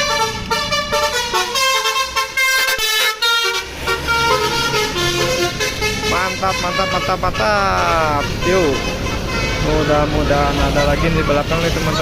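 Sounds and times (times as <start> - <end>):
bus air horn playing a tune: 0.0 - 10.8.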